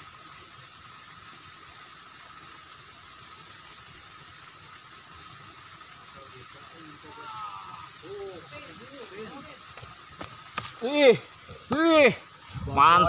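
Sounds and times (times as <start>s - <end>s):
water flowing over rocks: 0.0s - 13.0s.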